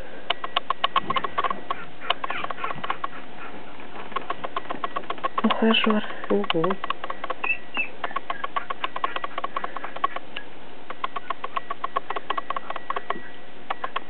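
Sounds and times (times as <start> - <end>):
puppies scuffling clicks and taps: 0.3 - 10.3, 10.9 - 14.0.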